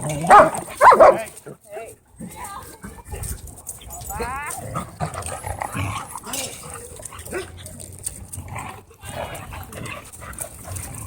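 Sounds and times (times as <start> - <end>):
rustling and movement: 0.0 - 11.0.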